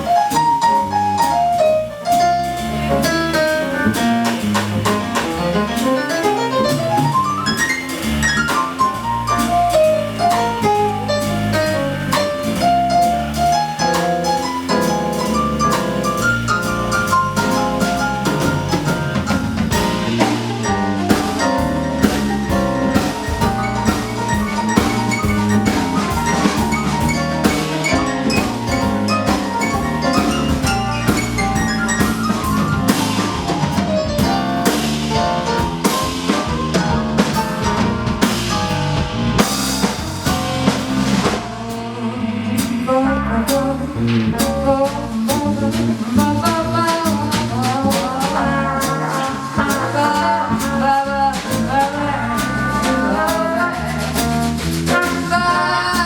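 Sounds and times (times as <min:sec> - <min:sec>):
drum kit keeping time: 0:00.0 - 0:56.0
jazz band playing: 0:00.0 - 0:56.0.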